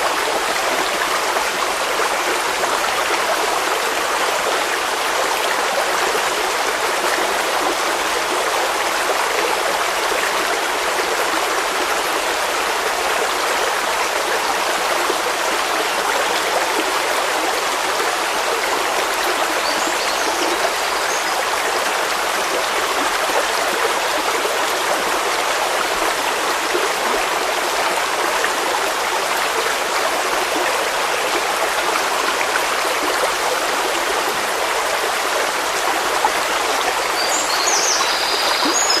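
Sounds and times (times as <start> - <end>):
stream of water flowing: 0.0 - 39.0.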